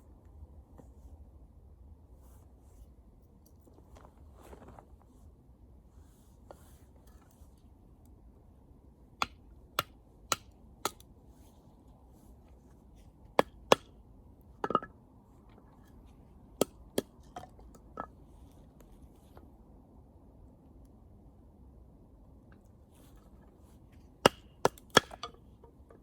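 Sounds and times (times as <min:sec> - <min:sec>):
low steady hiss: 0:00.0 - 0:26.0.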